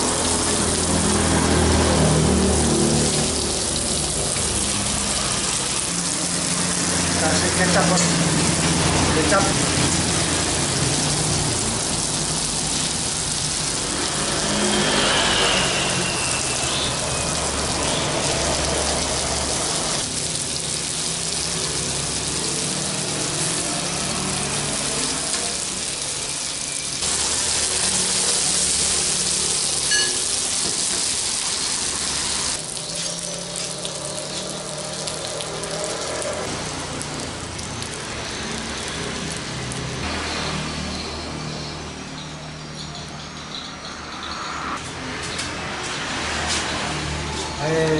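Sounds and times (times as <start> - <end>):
fish sizzling in a pan: 0.0 - 41.4.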